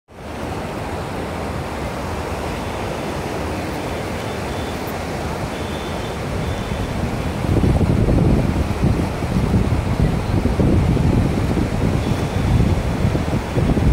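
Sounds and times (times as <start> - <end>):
river water rushing over rocks: 0.1 - 13.9.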